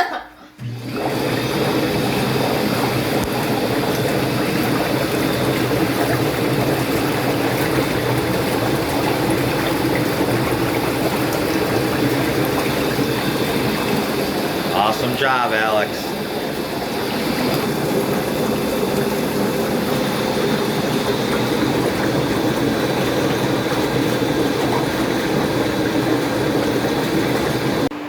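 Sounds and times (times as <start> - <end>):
bathtub jet motor hum: 0.0 - 28.0
water churning: 0.7 - 27.9.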